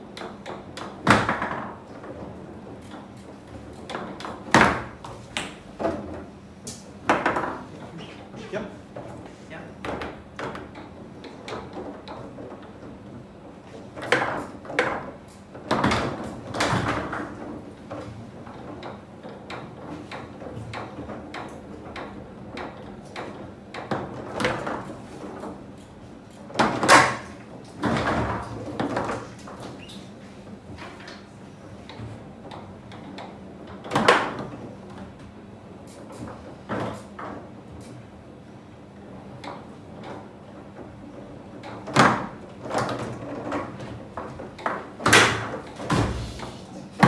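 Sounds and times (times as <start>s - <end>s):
foosball ball clacks and rod knocks: 0.1s - 6.3s, 7.0s - 7.7s, 9.8s - 29.8s, 30.8s - 35.2s, 39.3s - 47.0s.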